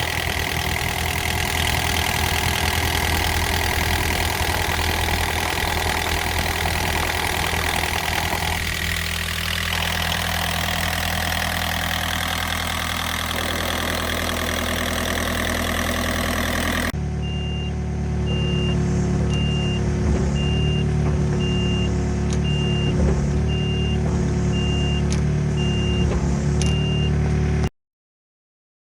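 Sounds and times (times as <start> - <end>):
diesel engine running: 0.0 - 27.7.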